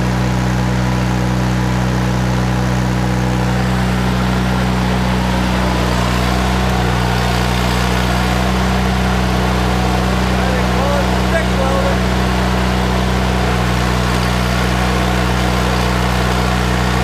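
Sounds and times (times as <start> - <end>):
generator engine droning: 0.0 - 17.0.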